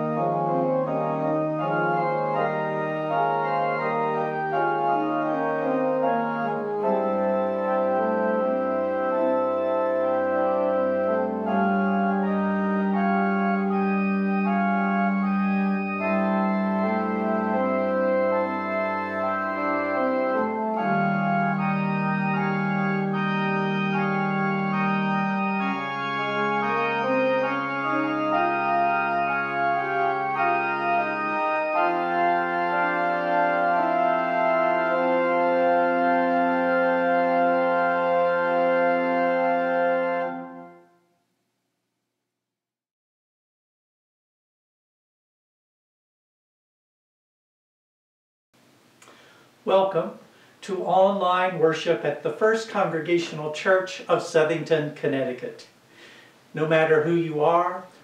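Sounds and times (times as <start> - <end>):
organ playing sustained chords: 0.0 - 41.0, 49.3 - 55.8, 56.6 - 58.0.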